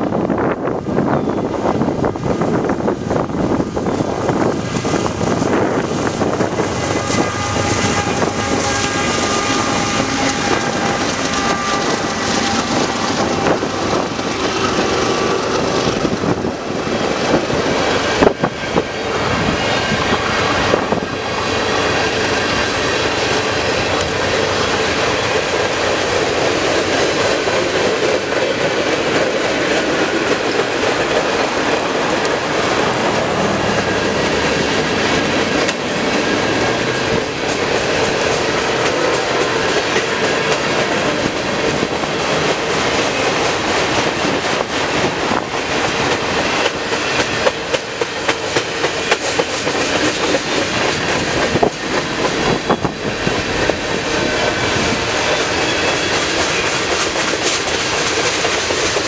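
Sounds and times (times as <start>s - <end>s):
diesel locomotives passing: 0.0s - 59.0s
freight cars rolling on rails: 0.0s - 59.0s.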